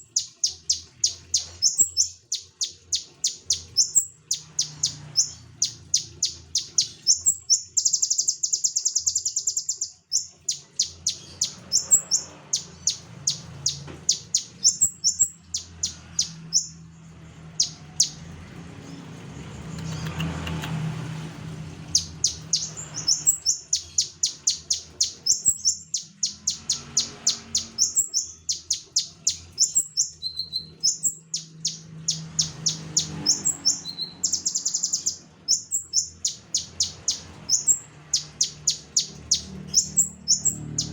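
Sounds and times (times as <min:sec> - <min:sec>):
songbird singing sharp chirps: 0:00.0 - 0:40.9.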